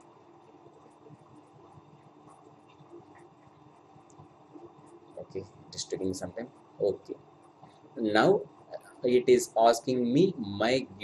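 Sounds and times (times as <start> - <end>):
faint constant hum: 0.0 - 11.0
low hiss: 0.0 - 11.0.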